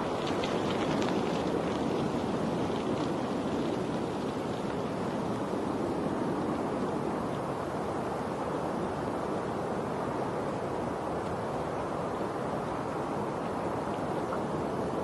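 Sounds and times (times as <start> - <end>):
steady rushing water: 0.0 - 15.0.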